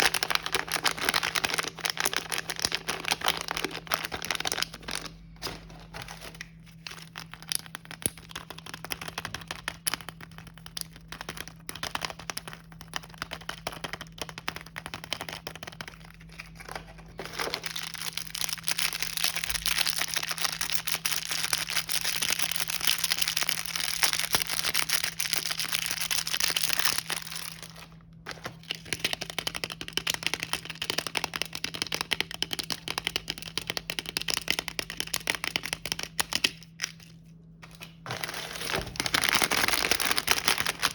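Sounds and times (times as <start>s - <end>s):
plastic packaging crinkling: 0.0s - 40.9s.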